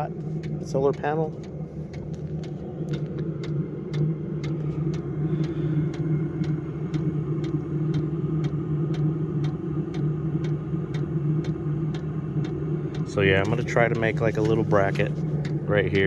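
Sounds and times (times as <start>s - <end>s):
fuel pump ticking: 0.0s - 16.0s
heater blower hum: 0.0s - 16.0s.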